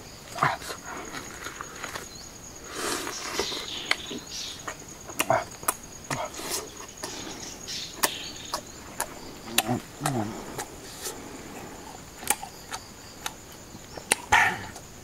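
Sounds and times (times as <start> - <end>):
high insect hum: 0.0 - 15.0.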